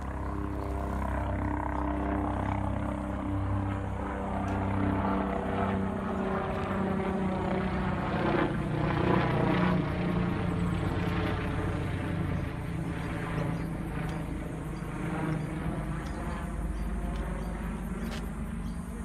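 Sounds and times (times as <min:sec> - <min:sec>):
aircraft engine drone: 0:00.0 - 0:19.0.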